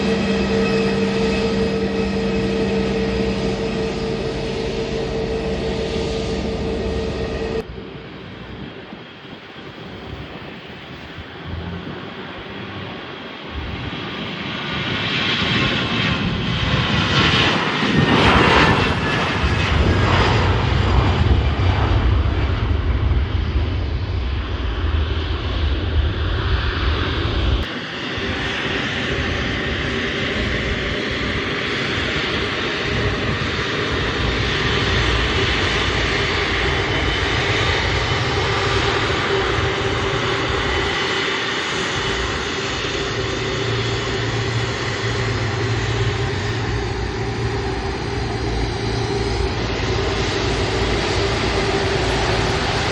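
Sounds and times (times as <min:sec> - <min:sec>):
airliner engines passing: 0:00.0 - 0:52.9.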